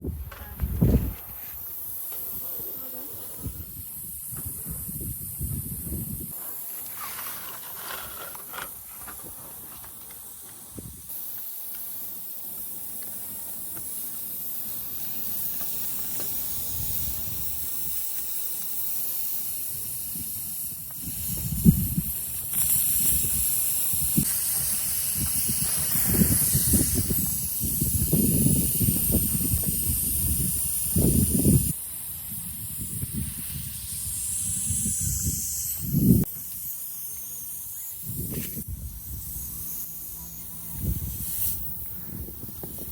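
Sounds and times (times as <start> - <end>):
high hiss of air: 0.2 - 42.9.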